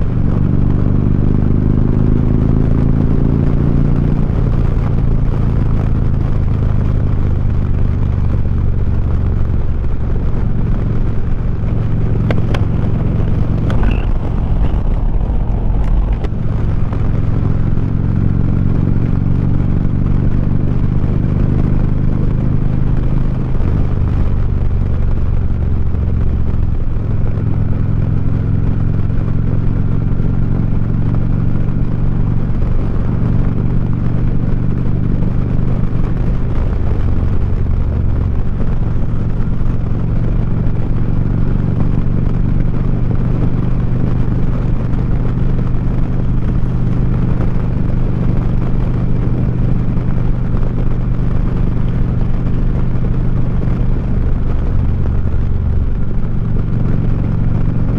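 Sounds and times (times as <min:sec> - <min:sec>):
motorcycle engine while riding: 0:00.0 - 0:57.9.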